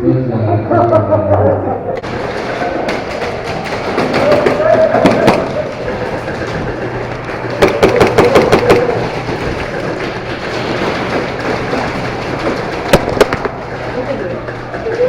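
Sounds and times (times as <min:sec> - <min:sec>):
background din of play: 0:00.0 - 0:15.0
rapid airsoft gunfire: 0:02.0 - 0:14.8.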